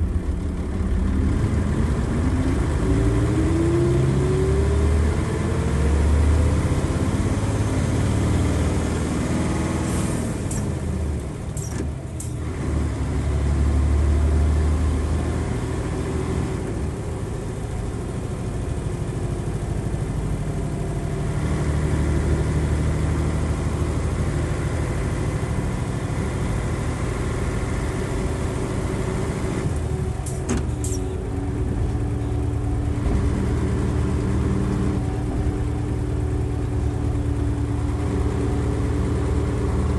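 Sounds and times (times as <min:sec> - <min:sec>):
diesel bus engine revving high: 0:00.0 - 0:39.9.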